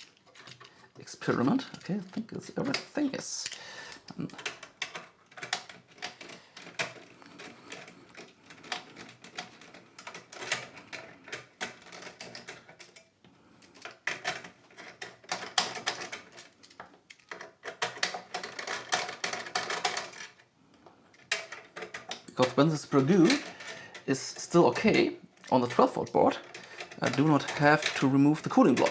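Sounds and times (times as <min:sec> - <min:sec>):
small metal parts clattering: 0:00.0 - 0:28.9.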